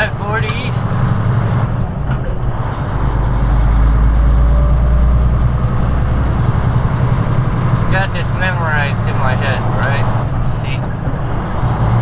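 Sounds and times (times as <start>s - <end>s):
diesel truck engine accelerating: 0.0s - 12.0s.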